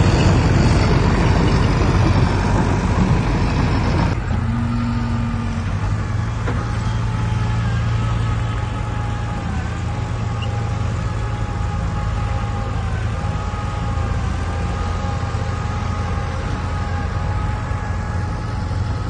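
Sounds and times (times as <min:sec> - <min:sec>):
diesel earthmoving machine running: 0:00.0 - 0:19.0.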